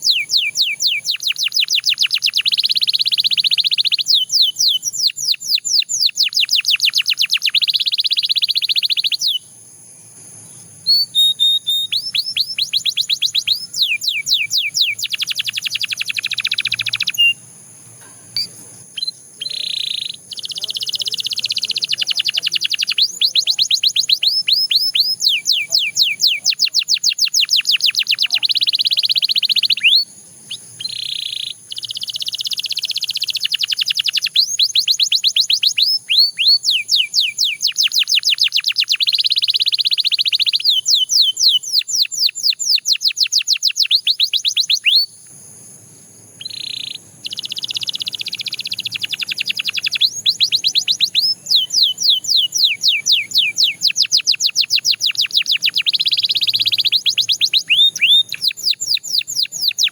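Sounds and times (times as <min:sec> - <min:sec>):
canary singing: 0:00.0 - 0:45.2, 0:46.3 - 0:59.9.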